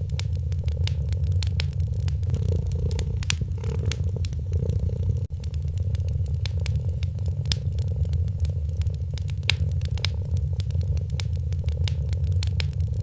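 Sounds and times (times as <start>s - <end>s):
cat purring: 0.0s - 13.0s
wood fire crackling: 0.0s - 13.0s.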